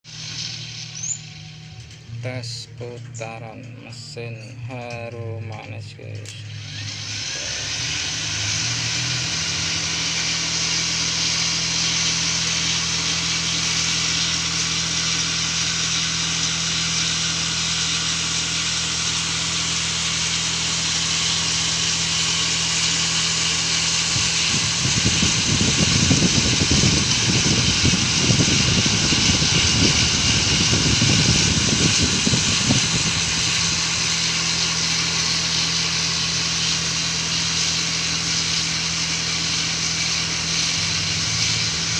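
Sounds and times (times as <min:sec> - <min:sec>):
cotton candy machine motor humming: 0:00.0 - 0:41.9.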